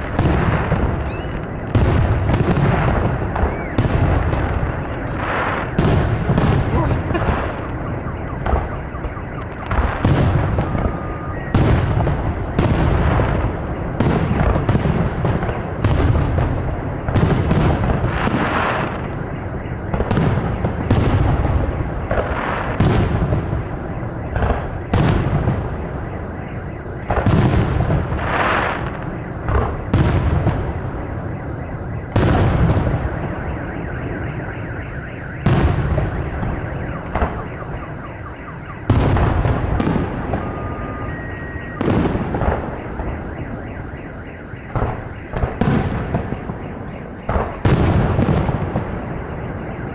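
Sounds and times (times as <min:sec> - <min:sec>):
firework shells booming: 0:00.0 - 0:31.3, 0:32.0 - 0:34.2, 0:35.3 - 0:38.0, 0:38.8 - 0:43.5, 0:44.6 - 0:49.9.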